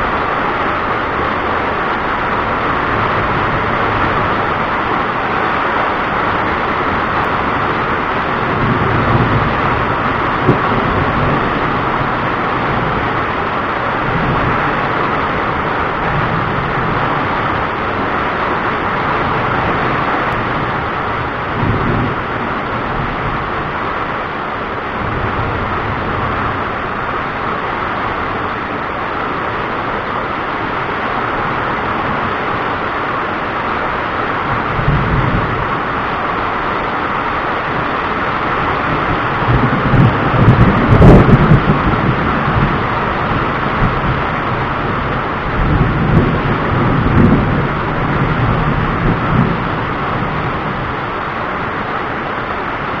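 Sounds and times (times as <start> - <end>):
heavy rain hissing: 0.0 - 53.0
thunder rolling: 0.0 - 53.0.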